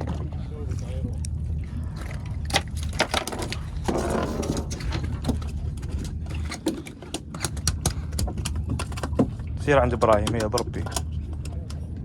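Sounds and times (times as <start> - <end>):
low engine hum: 0.0 - 12.0
knocks and scrapes on boat: 1.8 - 12.0.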